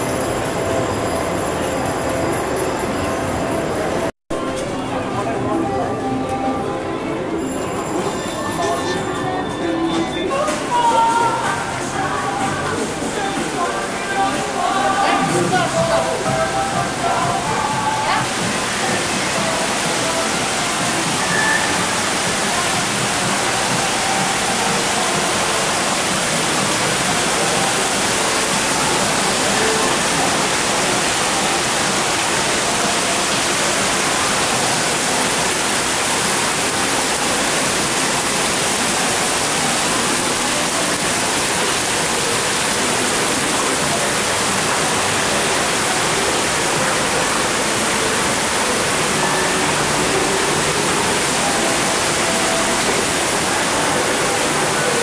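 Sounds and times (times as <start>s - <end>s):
fountain water splashing: 10.6s - 55.0s.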